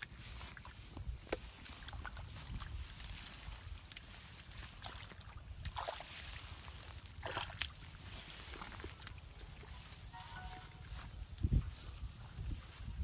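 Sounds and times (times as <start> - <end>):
squelching through mud and water: 0.0 - 13.0.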